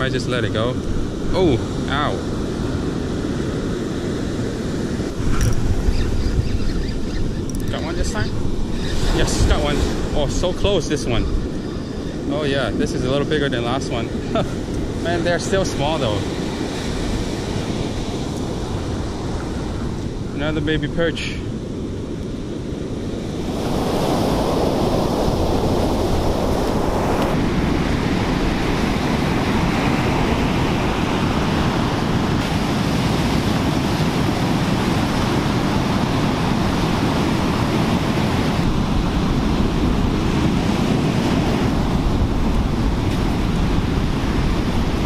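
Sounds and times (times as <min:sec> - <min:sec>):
wind on microphone: 0:00.0 - 0:20.4, 0:21.3 - 0:45.0
ocean surf breaking on beach: 0:00.0 - 0:45.0.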